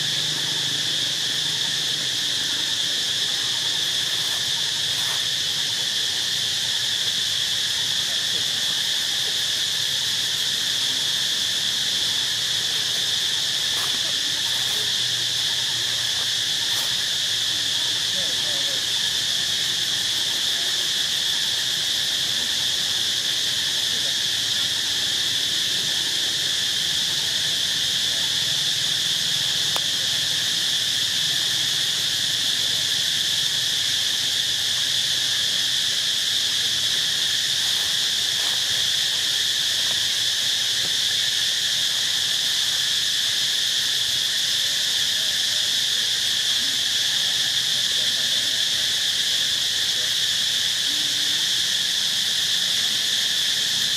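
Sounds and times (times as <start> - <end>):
insect chorus: 0.0 - 53.9.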